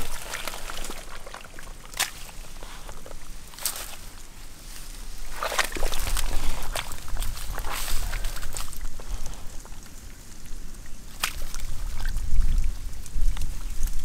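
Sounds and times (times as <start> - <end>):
dry grass stems rustling: 0.0 - 14.0
wet mud squelching: 0.0 - 14.0.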